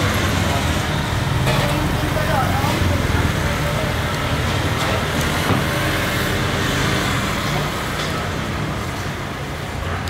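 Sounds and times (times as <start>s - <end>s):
road traffic engines: 0.0s - 10.0s.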